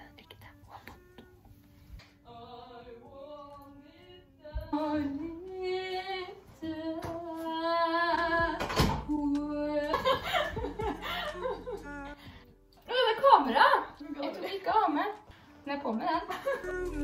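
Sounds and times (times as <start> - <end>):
woman singing: 2.2 - 12.3, 12.9 - 17.0.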